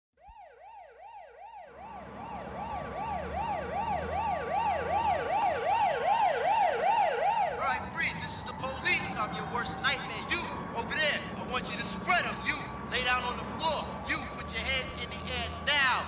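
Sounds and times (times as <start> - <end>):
siren wailing: 0.2 - 16.0.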